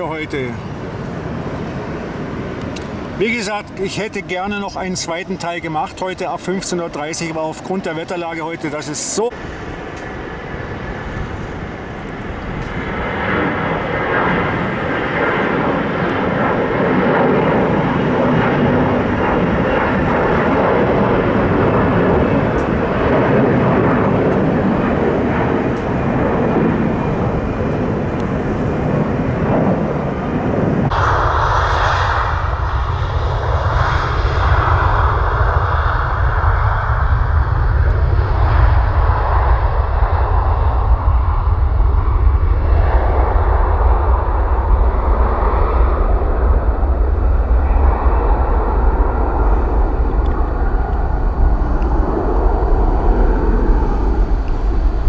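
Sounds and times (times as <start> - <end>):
jet engines roaring: 0.0 - 55.0
deep heavy rumble: 9.3 - 55.0.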